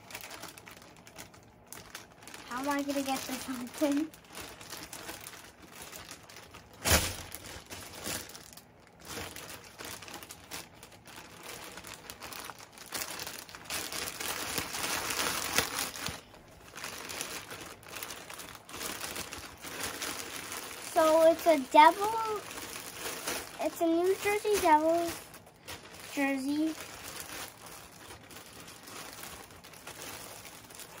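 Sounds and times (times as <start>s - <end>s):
loud plastic crack: 0.0s - 31.0s
plastic bag crinkling: 0.0s - 31.0s.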